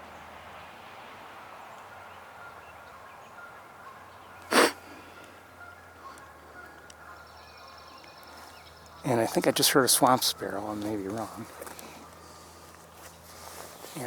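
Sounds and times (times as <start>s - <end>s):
faint bird calls: 1.6s - 14.0s.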